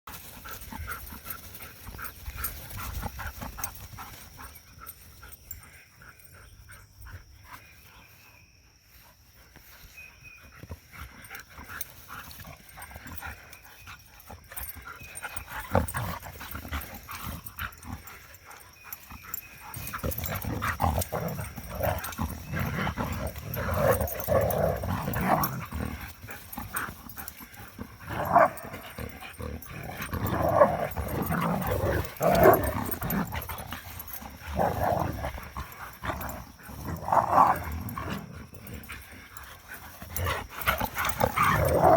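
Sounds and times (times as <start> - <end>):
dogs growling: 0.1 - 7.8, 10.6 - 41.9.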